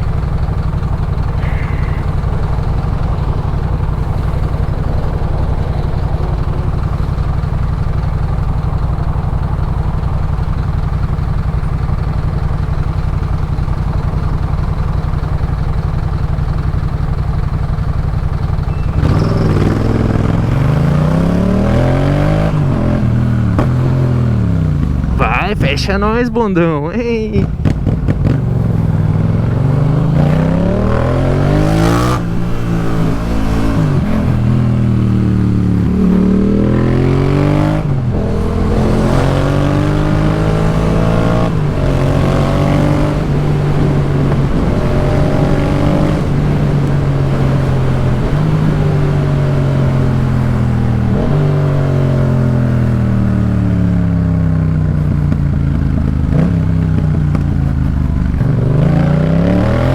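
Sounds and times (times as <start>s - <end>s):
motorcycle engine revving: 0.0s - 25.2s, 27.4s - 59.9s.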